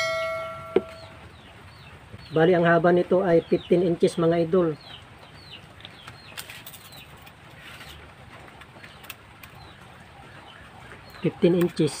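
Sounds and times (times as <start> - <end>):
faint small birds chirping: 0.8 - 12.0.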